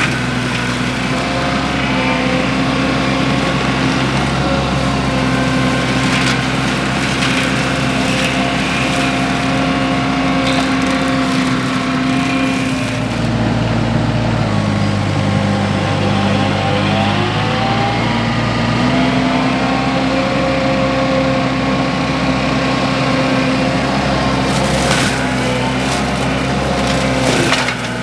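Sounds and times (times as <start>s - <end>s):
skid steer engine running: 0.0s - 28.0s
wood cracking in mulcher: 0.0s - 28.0s.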